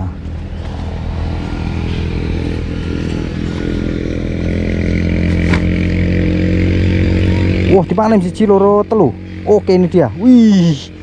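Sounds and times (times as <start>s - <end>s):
small engine running steadily: 0.0s - 11.0s.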